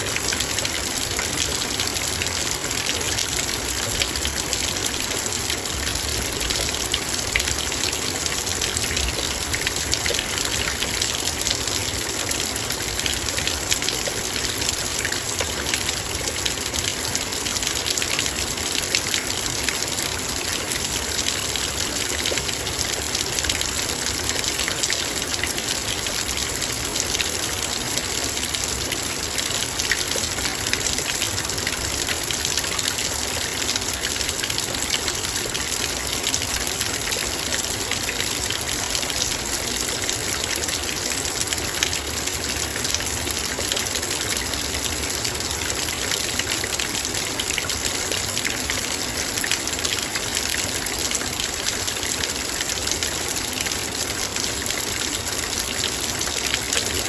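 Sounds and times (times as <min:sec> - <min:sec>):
heavy rain on metal bowl: 0:00.0 - 0:57.0.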